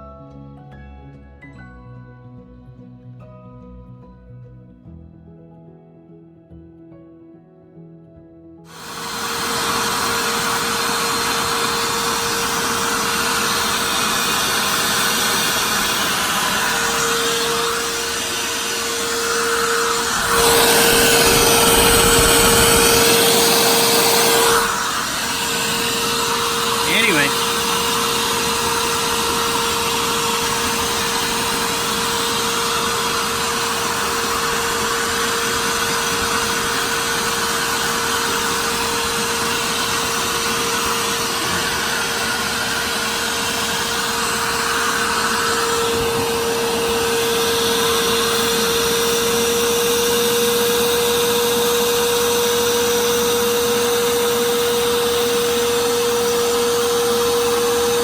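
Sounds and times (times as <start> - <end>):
carpet cleaning machine running: 8.7 - 58.0.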